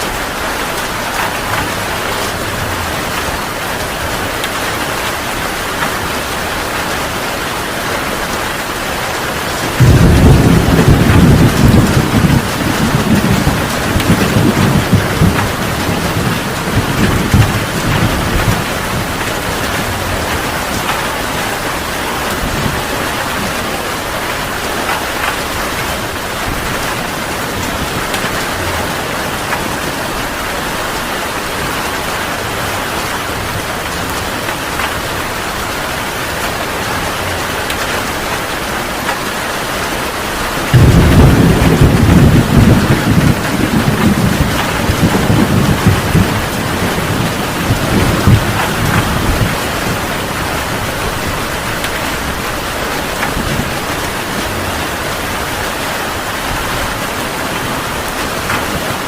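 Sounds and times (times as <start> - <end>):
heavy rain falling: 0.0 - 59.0
thunder clap and rumble: 0.0 - 59.0.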